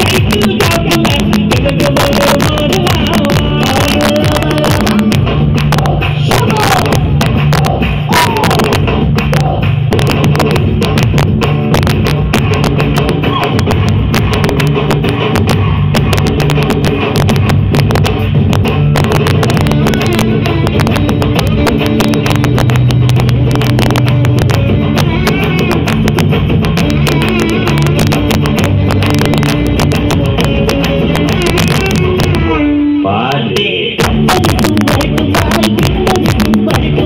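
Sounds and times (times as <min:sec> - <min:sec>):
loud amplified guitar music: 0:00.0 - 0:37.0.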